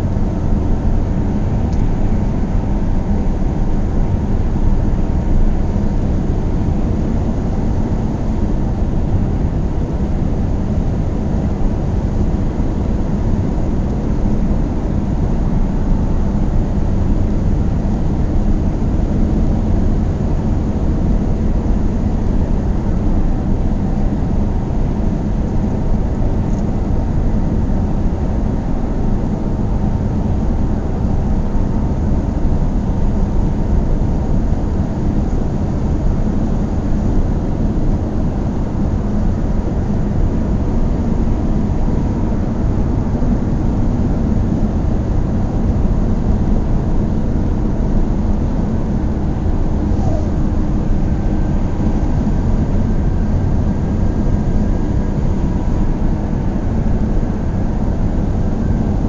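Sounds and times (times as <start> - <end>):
faint steady whine: 0.0 - 59.0.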